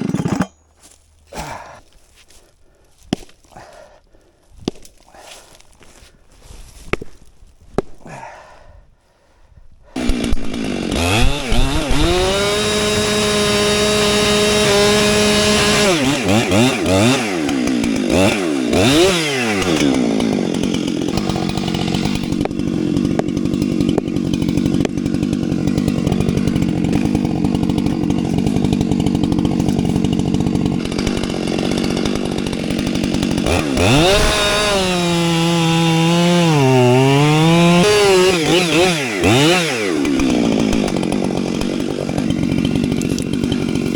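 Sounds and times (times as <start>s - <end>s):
chainsaw cutting through tree: 0.0s - 6.2s, 9.9s - 43.9s.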